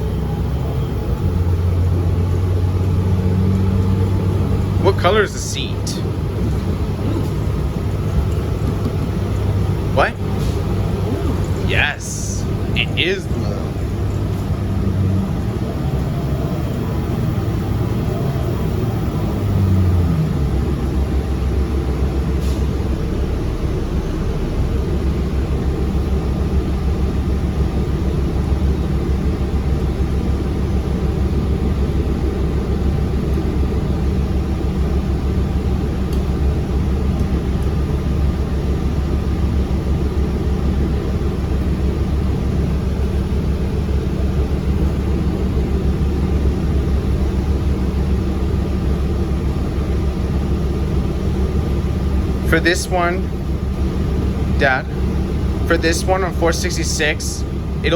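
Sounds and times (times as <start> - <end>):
bus engine drone: 0.0 - 57.9
road noise: 0.0 - 57.9.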